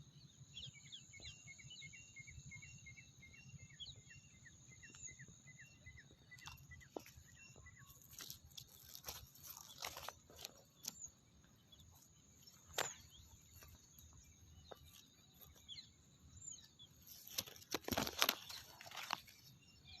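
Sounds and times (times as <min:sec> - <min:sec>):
bird chirps: 0:00.2 - 0:20.0.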